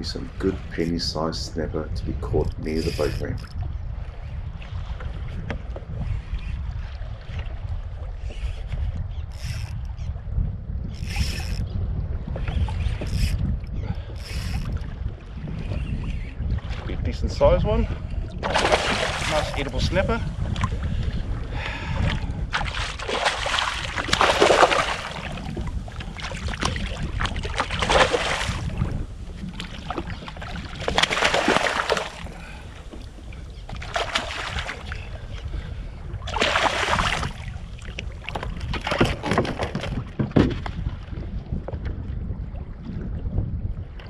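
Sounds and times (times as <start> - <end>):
wind rumbling on microphone: 0.0 - 44.0.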